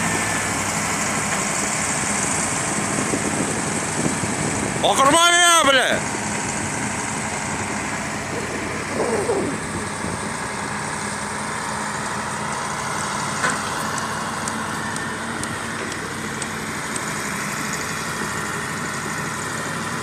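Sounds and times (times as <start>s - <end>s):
heavy diesel engines under load: 0.0s - 20.0s.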